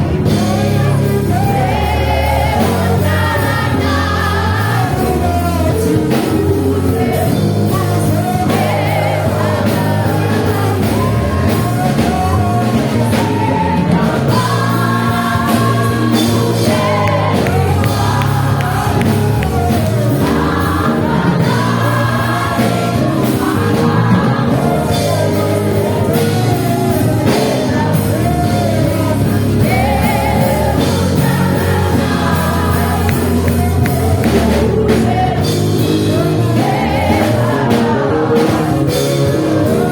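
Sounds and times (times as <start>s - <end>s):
bass line: 0.0s - 39.9s
drums: 0.0s - 39.9s
gospel singers: 0.0s - 39.9s.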